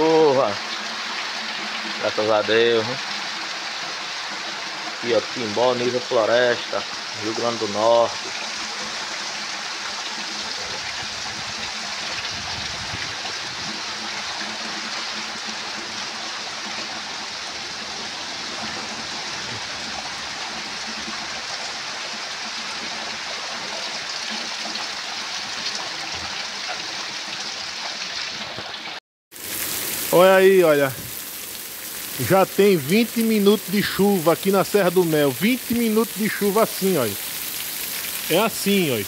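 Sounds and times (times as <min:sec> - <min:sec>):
heavy rain pouring: 0:00.0 - 0:28.0, 0:29.3 - 0:39.0
water running off roof eaves: 0:00.0 - 0:39.0.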